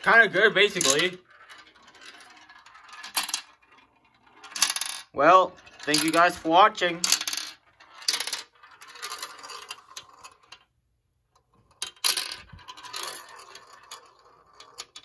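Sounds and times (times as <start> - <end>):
marble rolling through plastic track: 0.0 - 15.0.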